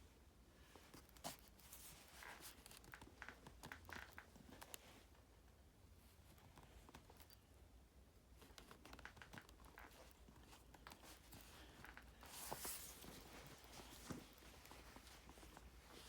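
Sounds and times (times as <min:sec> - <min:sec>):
leather lace clicks and rustles: 0:00.8 - 0:05.2, 0:06.2 - 0:07.5, 0:08.3 - 0:16.0.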